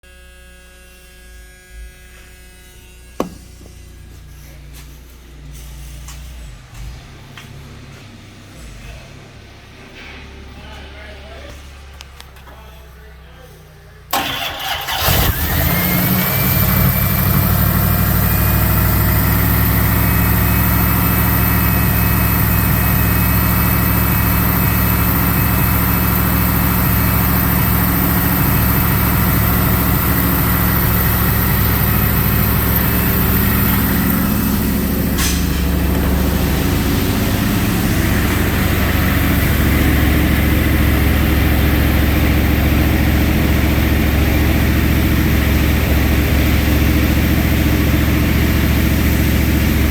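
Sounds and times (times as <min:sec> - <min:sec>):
car engine idling: 0:03.2 - 0:49.9.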